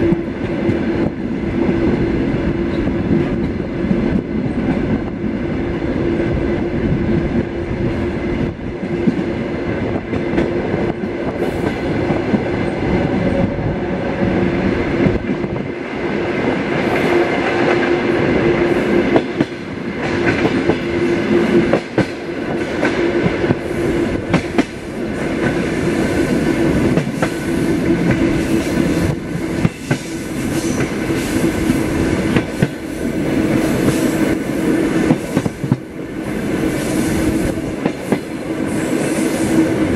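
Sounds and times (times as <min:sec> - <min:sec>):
train hum: 0:00.0 - 0:39.9
train wheels rumbling on rail: 0:00.0 - 0:39.9.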